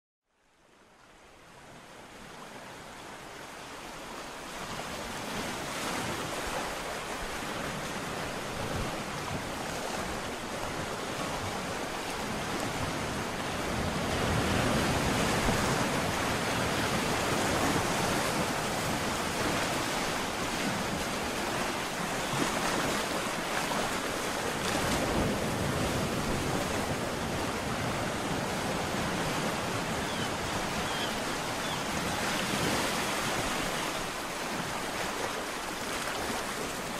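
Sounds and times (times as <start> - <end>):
waves breaking on shore: 0.8 - 36.9.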